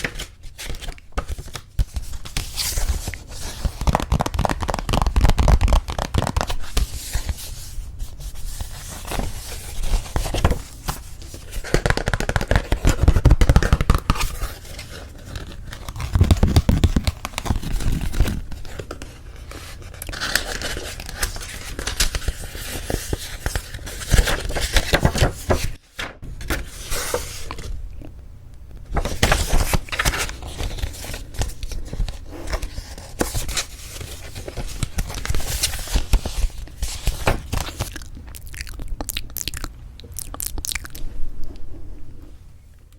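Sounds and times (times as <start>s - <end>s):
paper and card rustling: 0.0s - 27.8s, 28.8s - 37.9s.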